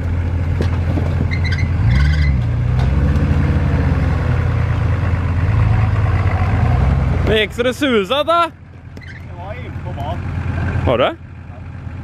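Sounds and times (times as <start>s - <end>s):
truck engine at low revs: 0.0s - 12.0s.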